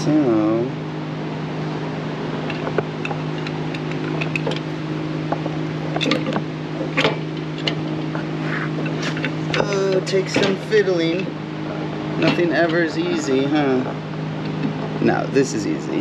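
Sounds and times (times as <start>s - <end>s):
low hum of a fan: 0.0s - 16.0s.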